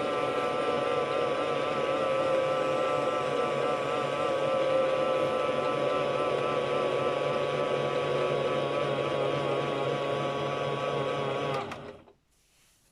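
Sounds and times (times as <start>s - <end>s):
toy washing machine motor hum: 0.0s - 12.1s.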